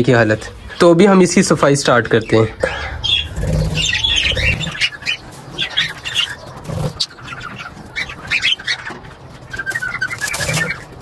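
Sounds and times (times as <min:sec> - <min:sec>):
budgerigars chirping: 0:00.1 - 0:11.0.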